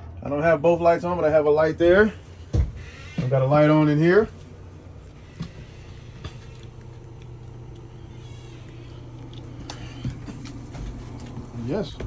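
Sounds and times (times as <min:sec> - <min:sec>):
furnace blower humming: 0:00.0 - 0:12.0.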